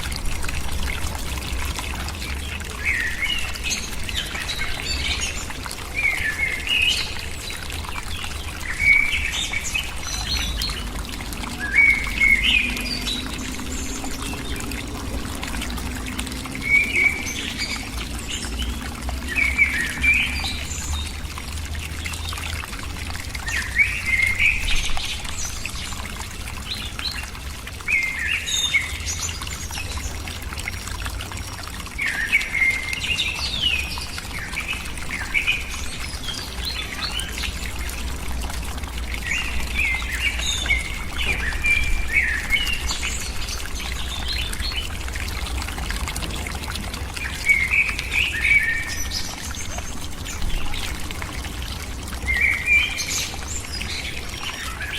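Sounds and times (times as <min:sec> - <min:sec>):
watery noise: 0:00.0 - 0:54.9.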